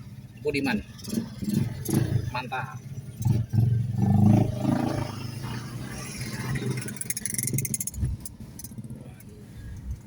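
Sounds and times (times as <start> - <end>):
vehicle engines in traffic: 0.0 - 10.0.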